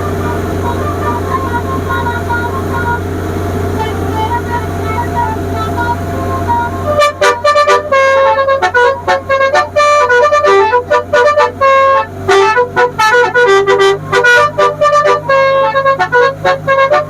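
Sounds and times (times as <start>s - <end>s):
multi-tone horn playing melody: 0.0s - 3.1s, 3.7s - 17.0s
boat engine drone: 0.0s - 17.0s.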